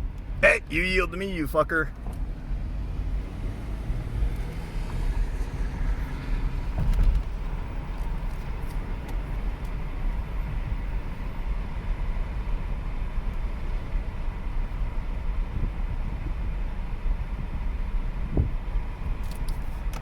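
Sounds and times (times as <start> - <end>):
road and engine rumble in car cabin: 0.0 - 20.0.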